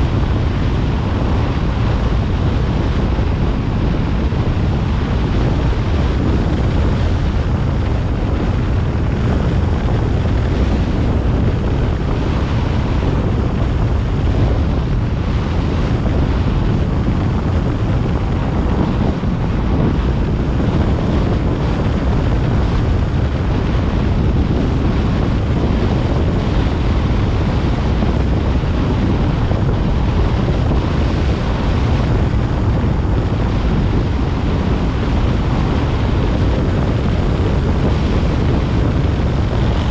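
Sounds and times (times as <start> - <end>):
car road noise: 0.0 - 39.9
wind buffeting microphone: 0.0 - 39.9.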